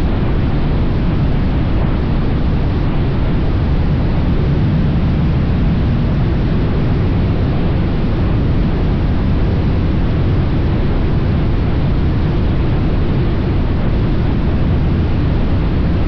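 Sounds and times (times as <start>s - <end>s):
motorcycle road and engine noise: 0.0s - 16.0s
wind rush on microphone: 0.0s - 16.0s.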